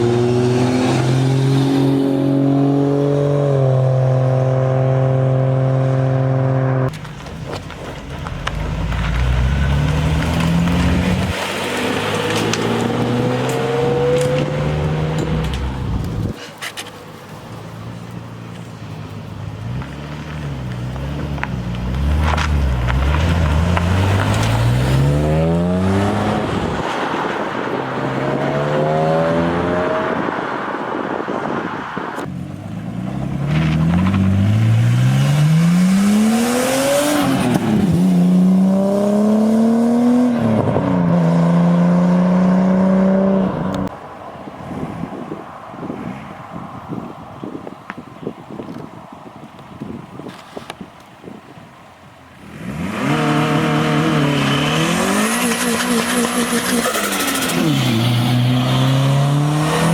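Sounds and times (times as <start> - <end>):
car engines accelerating hard: 0.0 - 6.9, 8.2 - 16.4, 17.7 - 43.9, 52.5 - 59.9.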